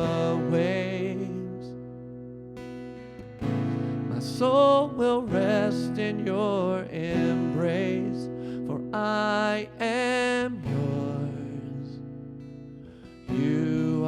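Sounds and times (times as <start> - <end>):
person singing slow song: 0.0 - 2.2, 3.3 - 14.0
acoustic guitar: 0.0 - 14.0.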